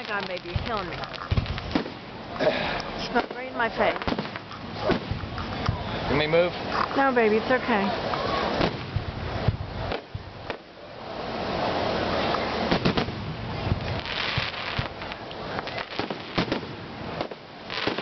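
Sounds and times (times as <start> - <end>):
fireworks bangs and pops: 0.0 - 10.8, 11.6 - 18.0
fireworks crackling: 0.0 - 18.0.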